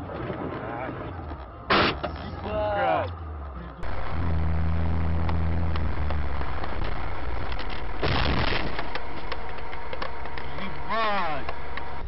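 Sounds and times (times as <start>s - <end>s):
vehicle engine low drone: 0.0s - 12.0s.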